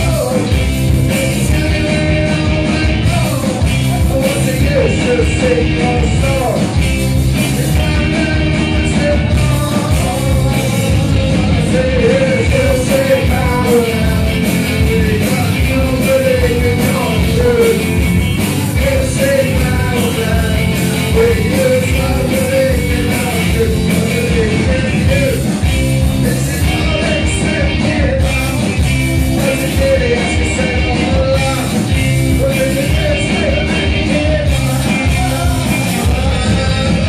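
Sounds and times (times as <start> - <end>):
man singing into a microphone: 0.0 - 6.8, 7.4 - 37.0
drums: 0.0 - 37.0
electric guitars: 0.0 - 37.0.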